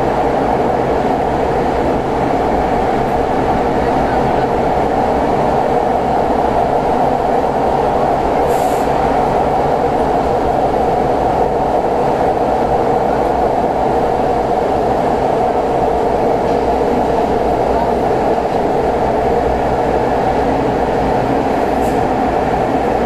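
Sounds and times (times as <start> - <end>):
metro train running: 0.0 - 23.0.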